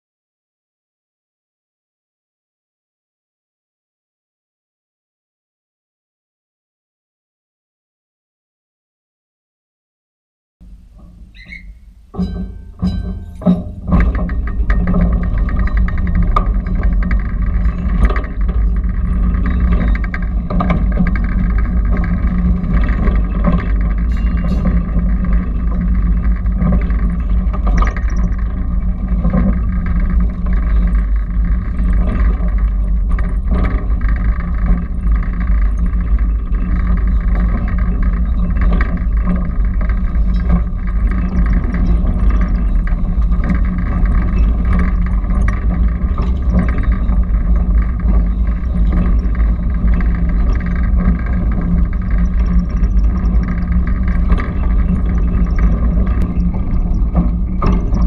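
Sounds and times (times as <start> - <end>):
trolley car rumbling hum: 10.6 - 58.0
wheels clicking on rails: 10.6 - 58.0.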